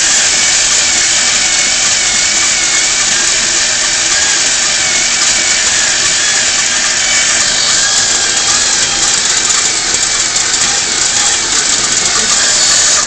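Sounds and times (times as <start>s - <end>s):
machine motor whirring: 0.0s - 13.0s.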